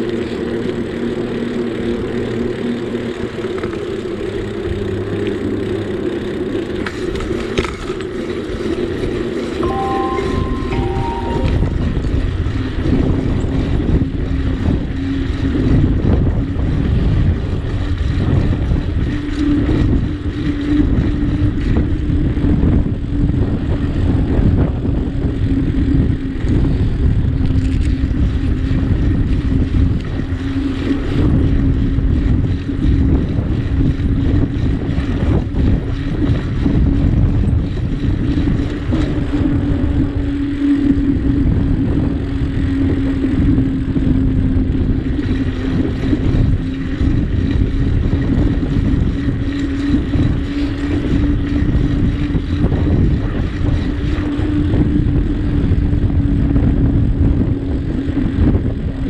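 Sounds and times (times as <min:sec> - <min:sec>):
wind buffeting microphone: 0:04.4 - 0:59.0.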